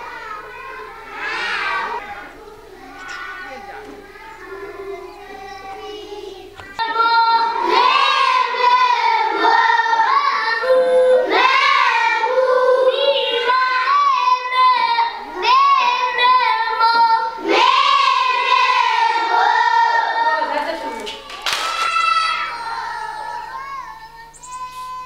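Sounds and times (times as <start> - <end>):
children singing in unison: 0.0 - 3.3, 4.2 - 20.4, 22.0 - 25.0.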